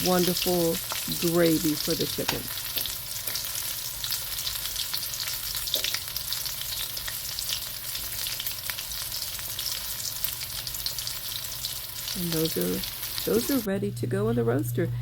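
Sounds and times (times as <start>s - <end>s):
chicken sizzling in hot oil: 0.0s - 13.7s.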